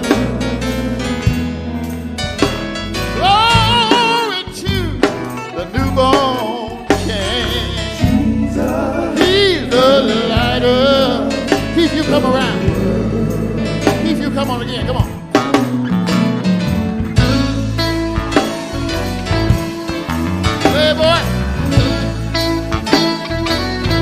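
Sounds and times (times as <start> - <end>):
bass guitar: 0.0 - 24.0
drums: 0.0 - 24.0
electric guitar: 0.0 - 24.0
keyboard: 0.0 - 24.0.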